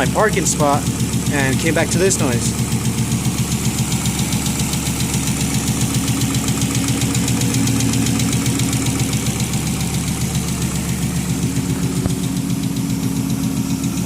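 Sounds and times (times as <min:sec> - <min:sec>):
car engine idling: 0:00.0 - 0:14.0
rapid regular engine ticking: 0:00.0 - 0:14.0.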